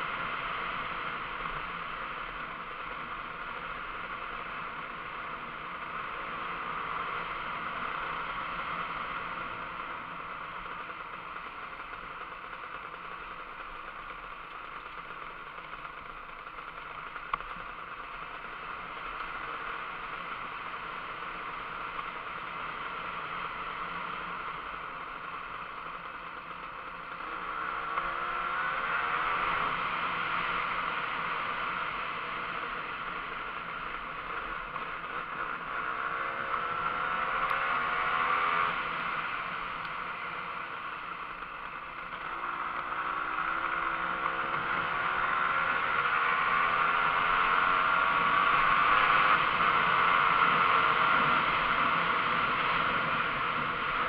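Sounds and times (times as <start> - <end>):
steady noisy rush: 0.0 - 54.0
two-stroke motorcycle engine accelerating: 0.0 - 54.0.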